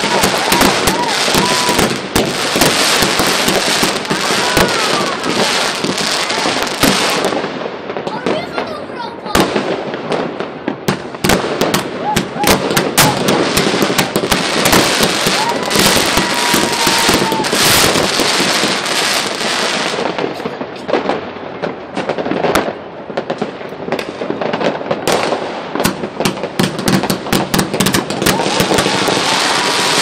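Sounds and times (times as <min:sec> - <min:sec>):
fireworks banging and crackling: 0:00.0 - 0:30.0.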